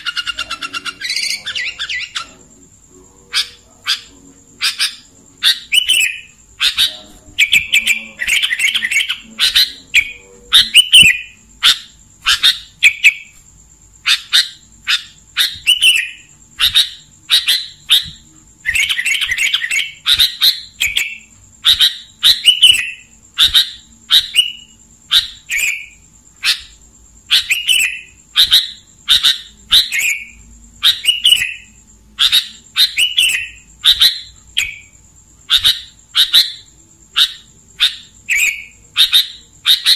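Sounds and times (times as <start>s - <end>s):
bird chattering notes: 0.0s - 2.5s, 3.2s - 13.4s, 14.0s - 34.9s.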